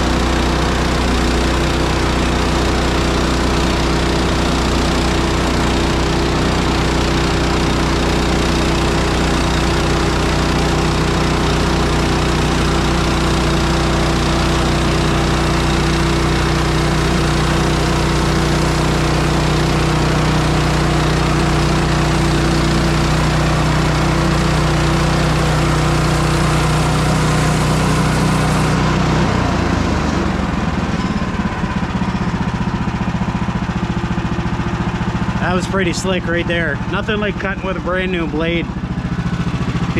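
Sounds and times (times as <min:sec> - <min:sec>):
bandsaw mill cutting log: 0:00.0 - 0:39.9.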